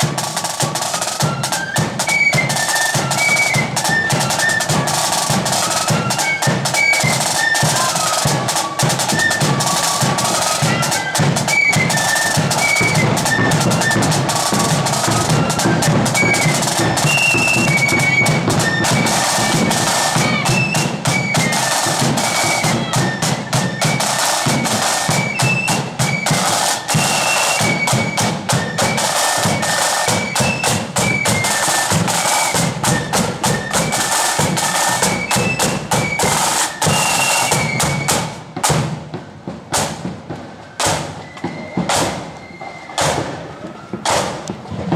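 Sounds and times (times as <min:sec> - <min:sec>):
flute melody: 0:00.0 - 0:39.4, 0:40.4 - 0:44.8
rapid side drum strokes: 0:00.0 - 0:44.9.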